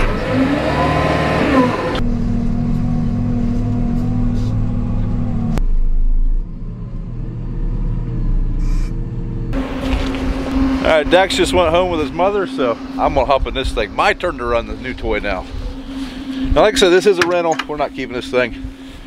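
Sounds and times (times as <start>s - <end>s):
diesel engine working: 0.0s - 19.0s
whine rising and falling: 0.1s - 19.0s.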